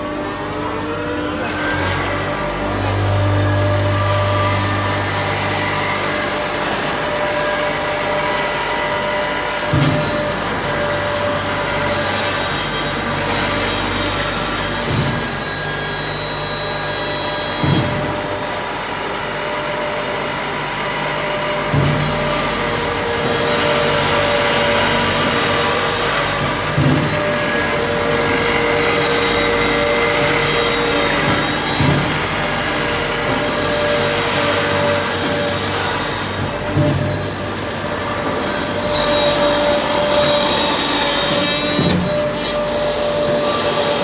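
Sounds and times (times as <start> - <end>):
wood shaving machine running: 0.0 - 44.0.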